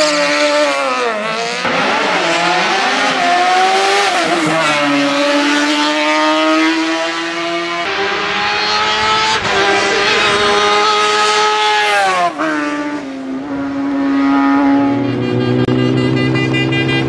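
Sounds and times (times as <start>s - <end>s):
racing car engine high revs: 0.0s - 17.0s.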